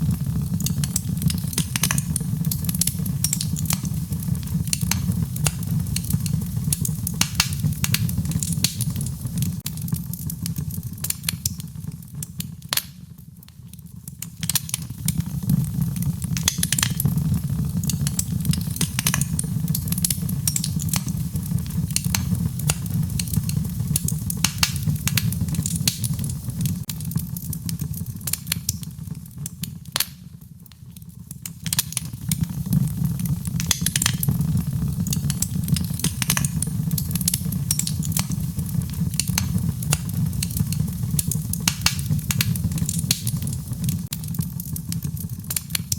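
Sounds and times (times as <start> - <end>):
low fire rumble: 0.0 - 12.8, 13.8 - 45.9
sharp fire pops: 0.0 - 13.2, 14.1 - 45.9
wood fire crackling: 0.0 - 45.9.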